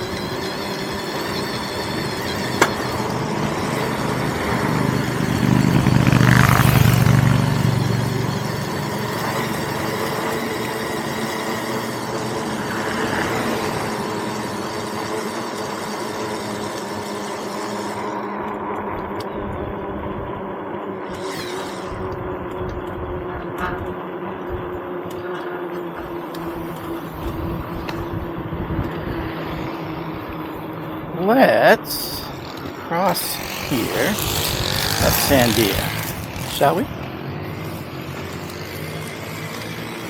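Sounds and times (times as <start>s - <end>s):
vehicle motor hum: 0.0s - 31.2s, 31.9s - 40.0s
wind and road hiss: 0.0s - 40.0s.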